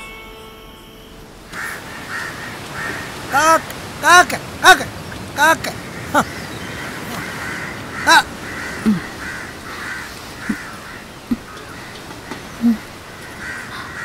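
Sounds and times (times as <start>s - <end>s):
crows cawing: 1.5s - 4.8s, 5.4s - 14.0s.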